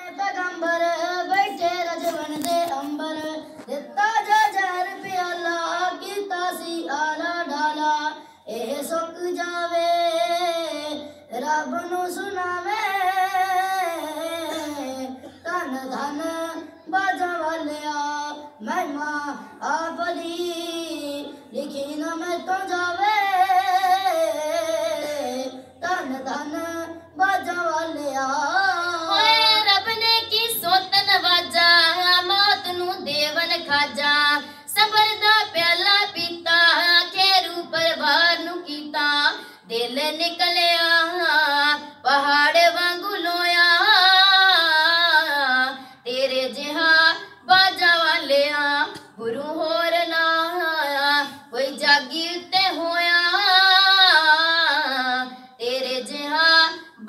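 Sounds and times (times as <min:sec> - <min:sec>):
child singing into a microphone: 0:00.0 - 0:57.0.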